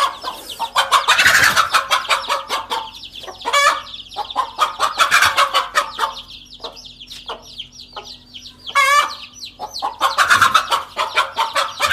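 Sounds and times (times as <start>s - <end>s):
chicks peeping: 0.0s - 11.9s
hen alarm squawks: 0.0s - 11.9s.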